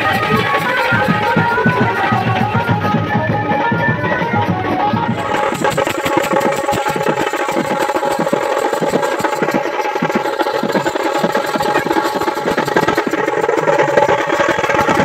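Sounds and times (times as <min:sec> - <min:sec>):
rapid barrel drumming: 0:00.0 - 0:15.0.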